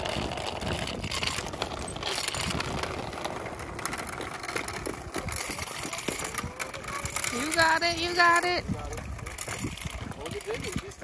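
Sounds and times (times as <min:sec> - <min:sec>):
small wheels rolling on asphalt: 0:00.0 - 0:11.0.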